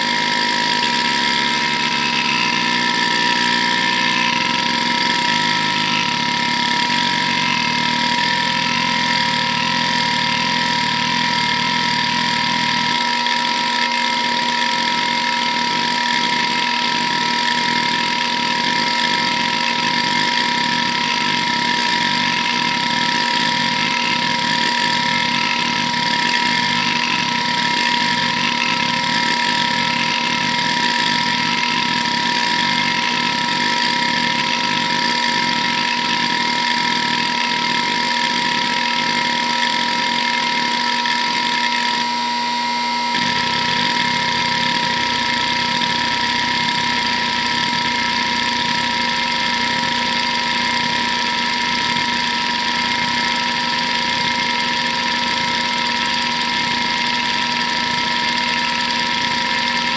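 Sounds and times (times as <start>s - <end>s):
hard drive head seek chatter: 0.0s - 42.0s, 43.2s - 59.9s
hard drive spinning whine: 0.0s - 59.9s.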